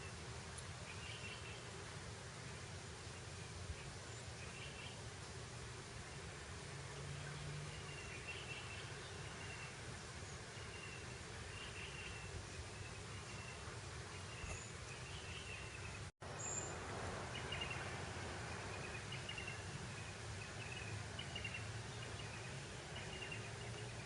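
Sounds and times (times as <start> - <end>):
breeze over grassland: 0.0 - 24.0.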